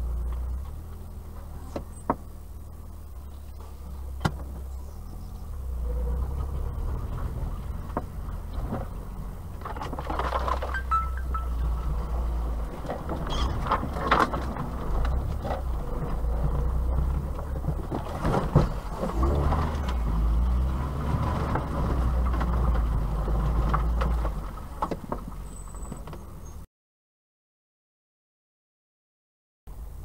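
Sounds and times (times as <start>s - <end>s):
knocks and rattles over bumps: 0.0s - 26.5s
car engine and road rumble: 0.0s - 26.7s, 29.7s - 30.0s.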